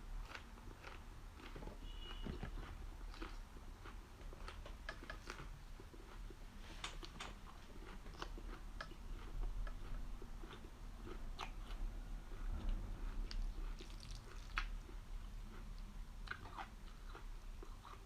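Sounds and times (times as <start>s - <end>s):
chewing with wet crunches: 0.0s - 18.0s.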